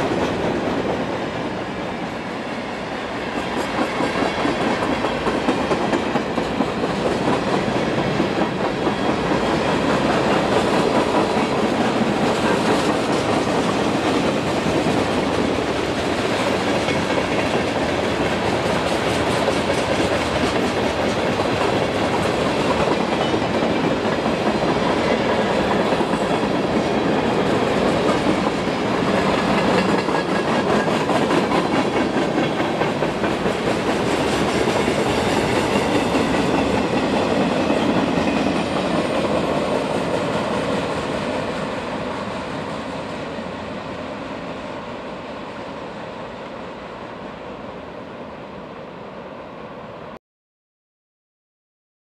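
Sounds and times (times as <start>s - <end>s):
train wheels clattering on rails: 0.0s - 43.6s.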